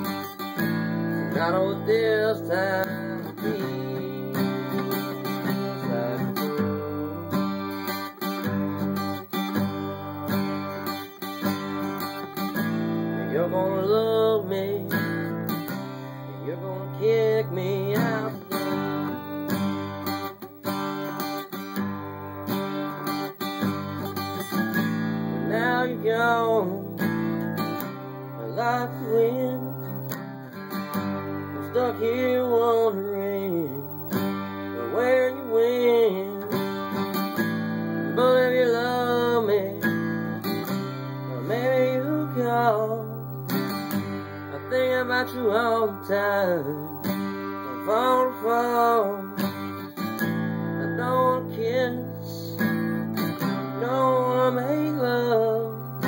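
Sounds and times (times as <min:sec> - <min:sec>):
strummed acoustic guitar chords: 0:00.0 - 0:56.0
wavering melody line: 0:00.0 - 0:56.0.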